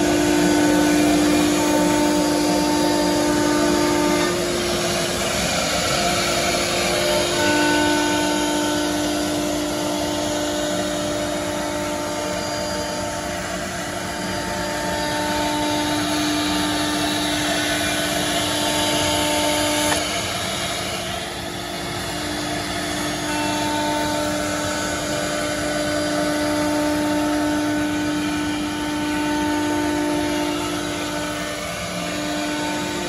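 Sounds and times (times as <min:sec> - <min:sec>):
router spindle whining: 0:00.0 - 0:33.0
rushing cutting and dust extraction: 0:00.0 - 0:33.0.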